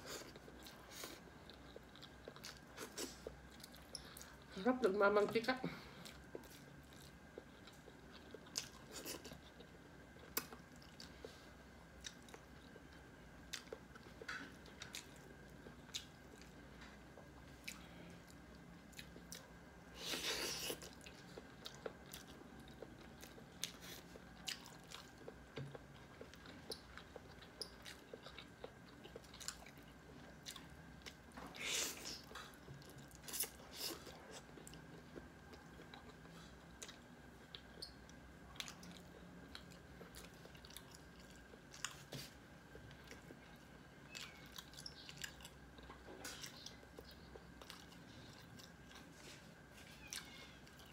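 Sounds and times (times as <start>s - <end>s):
person chewing food: 0.0s - 4.5s, 6.0s - 50.9s.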